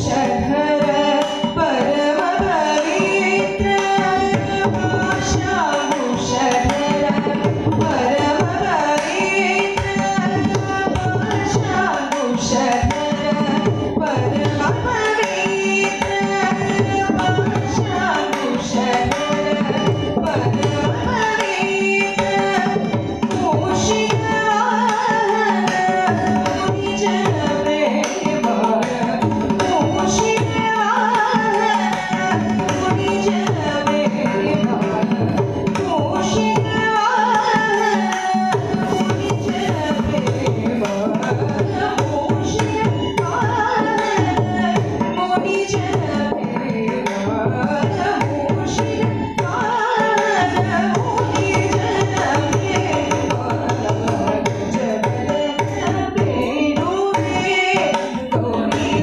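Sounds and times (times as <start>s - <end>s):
violin accompaniment: 0.0s - 59.0s
woman singing: 0.0s - 59.0s.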